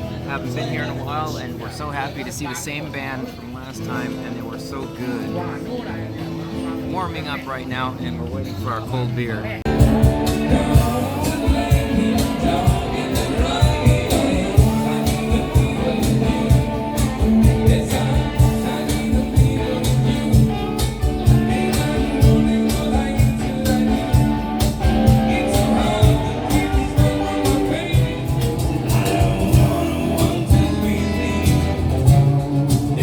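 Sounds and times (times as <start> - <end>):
live rock band playing: 0.0 - 2.2, 3.3 - 33.0.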